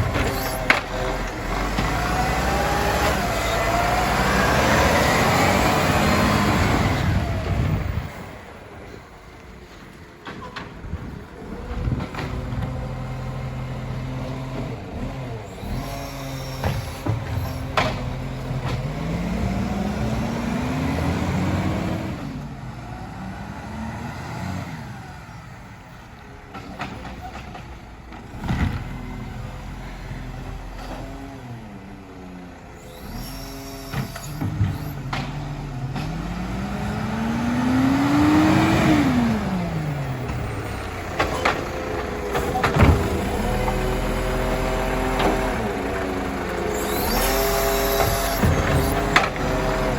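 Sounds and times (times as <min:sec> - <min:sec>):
garbage truck engine running: 0:00.0 - 0:23.5, 0:25.0 - 0:49.9.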